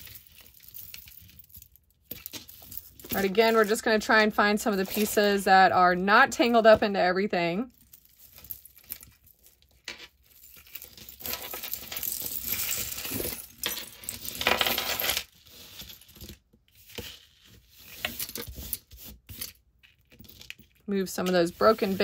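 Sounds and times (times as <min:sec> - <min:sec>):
jewelry clinking and rattling: 0:00.0 - 0:05.6, 0:07.7 - 0:16.4, 0:17.8 - 0:22.0.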